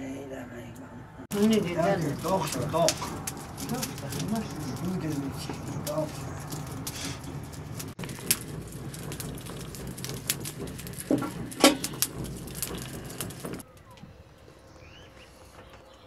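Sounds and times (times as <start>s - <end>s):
charcoal crackling and popping: 1.3s - 16.0s
steady rushing noise: 1.3s - 16.0s.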